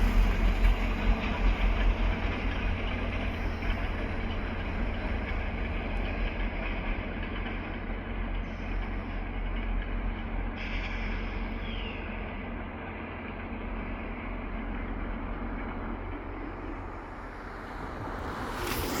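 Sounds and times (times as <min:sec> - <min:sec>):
train rumbling on the track: 0:00.0 - 0:19.0.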